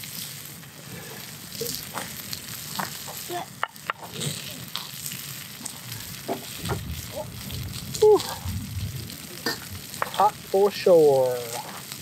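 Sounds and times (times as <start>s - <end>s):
fat dripping into flames: 0.0s - 12.0s
fire crackling and popping: 0.0s - 12.0s
meat sizzling over campfire: 0.0s - 12.0s.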